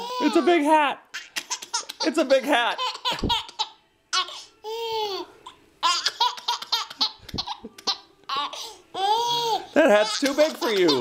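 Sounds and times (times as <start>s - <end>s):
baby laughing: 0.0s - 11.0s.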